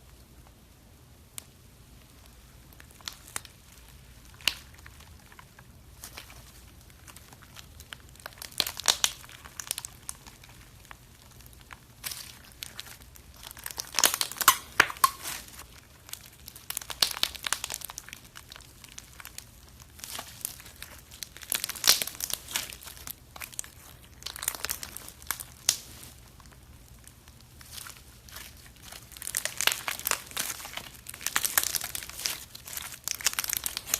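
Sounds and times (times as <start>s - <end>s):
slime crackling and popping: 1.3s - 33.9s.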